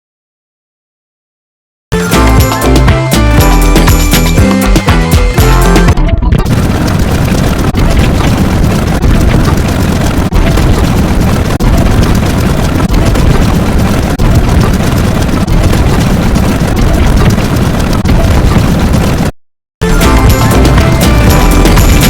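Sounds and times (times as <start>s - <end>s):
rumbling bass sound effect: 2.0s - 22.0s.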